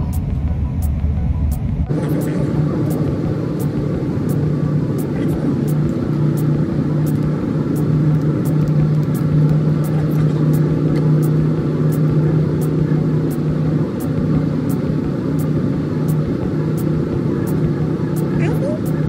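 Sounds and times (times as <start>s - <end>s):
passenger train hum and rumble: 0.0s - 19.0s.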